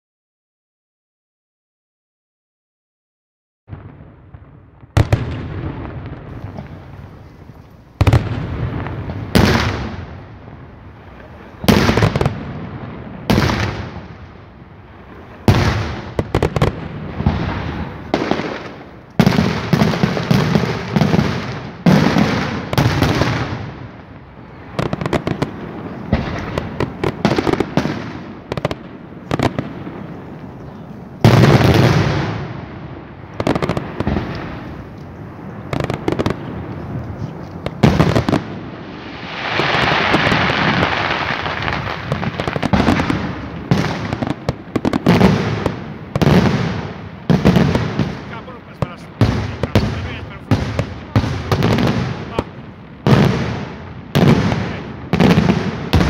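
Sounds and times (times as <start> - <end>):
fireworks bangs and booms: 3.7 - 56.0.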